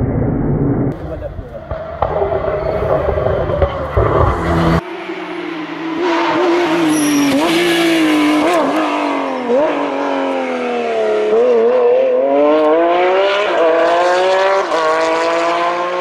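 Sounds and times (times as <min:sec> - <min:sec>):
rally car engine revving: 0:00.9 - 0:16.0.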